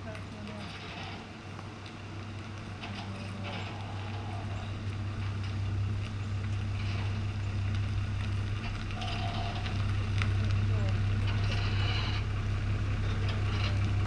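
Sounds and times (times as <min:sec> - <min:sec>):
pickup truck engine running: 0:00.0 - 0:14.0.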